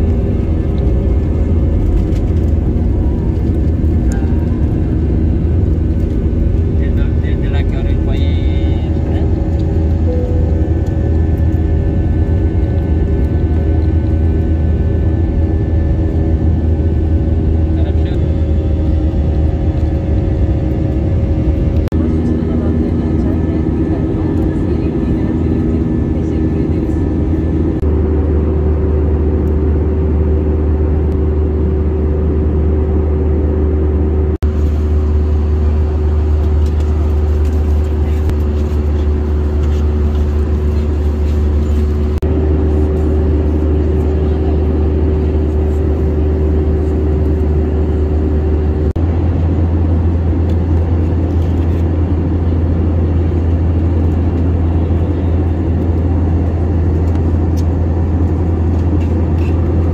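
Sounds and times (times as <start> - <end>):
airliner cabin engine drone: 0.0 - 59.9
faint hum: 0.0 - 59.9.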